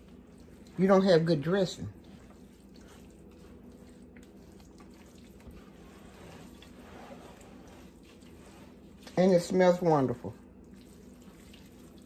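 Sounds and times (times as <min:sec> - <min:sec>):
steady low hum: 0:00.0 - 0:12.0
wet squishing of food mixed by hand: 0:00.0 - 0:12.0.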